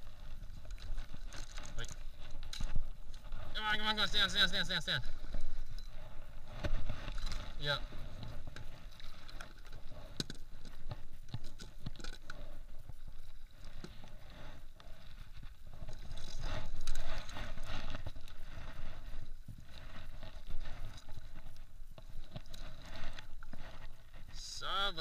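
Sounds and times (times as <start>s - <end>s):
rustling: 0.0s - 24.5s.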